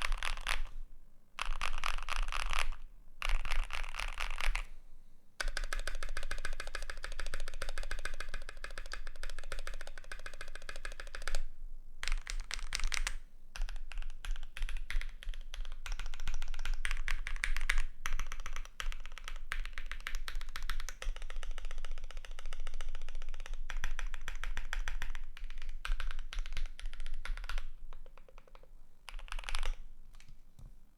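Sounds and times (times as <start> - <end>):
fast mechanical keyboard typing: 0.0 - 0.7, 1.4 - 4.6, 5.4 - 11.4, 12.0 - 30.3.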